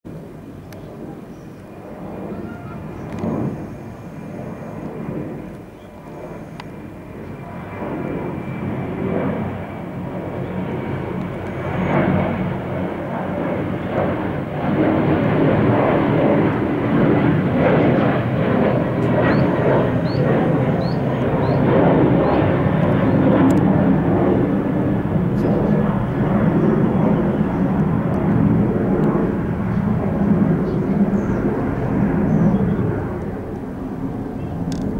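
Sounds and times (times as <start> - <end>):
jet airliner passing overhead: 0.1 - 34.9.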